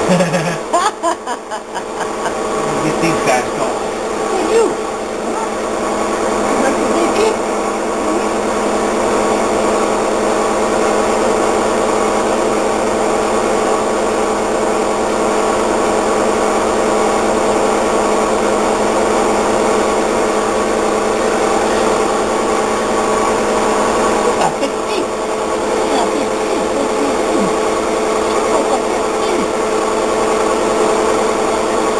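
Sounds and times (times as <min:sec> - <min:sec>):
washing machine spinning: 0:00.0 - 0:31.9.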